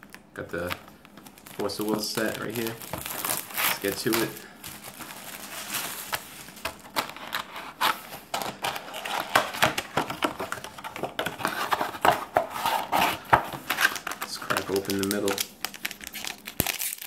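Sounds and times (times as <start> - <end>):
plastic wrap crinkling and tearing: 0.0 - 17.0.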